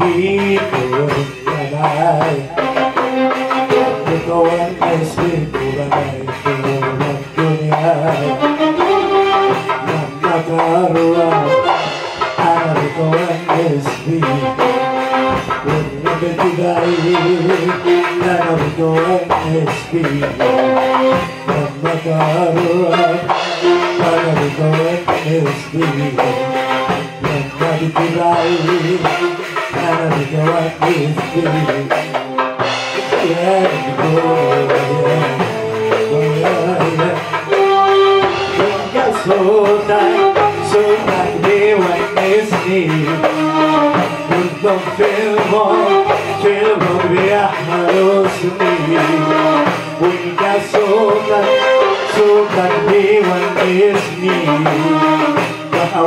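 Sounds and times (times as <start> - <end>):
hand percussion beat: 0.0 - 56.0
man singing into microphone: 0.0 - 56.0.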